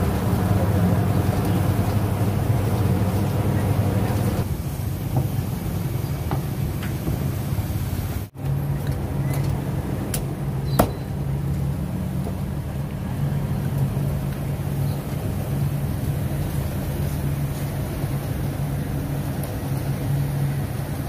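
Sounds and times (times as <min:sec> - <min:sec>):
low rumble of street traffic: 0:00.0 - 0:21.0.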